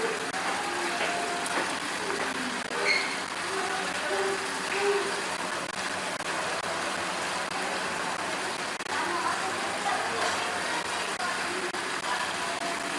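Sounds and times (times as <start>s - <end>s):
road traffic noise: 0.0s - 12.9s.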